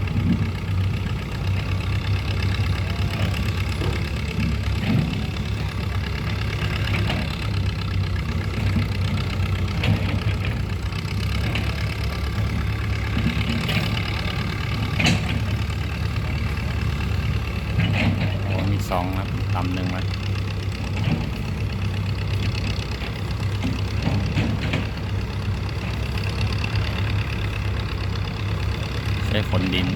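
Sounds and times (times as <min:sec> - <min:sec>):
excavator diesel engine: 0:00.0 - 0:29.9.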